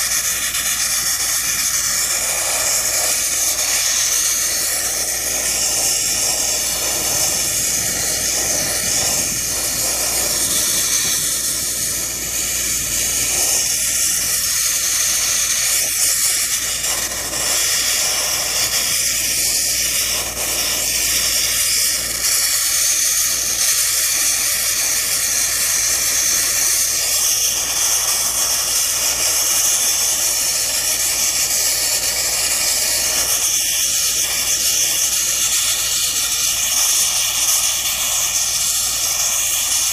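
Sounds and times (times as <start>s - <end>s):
sandblasting nozzle hissing: 0.0s - 39.9s.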